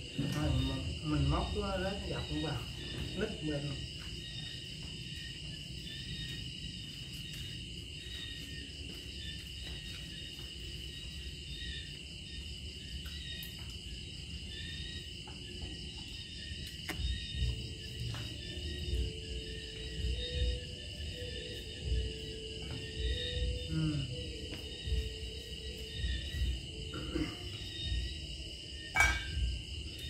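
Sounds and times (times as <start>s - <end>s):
chorus of night insects: 0.0s - 30.0s.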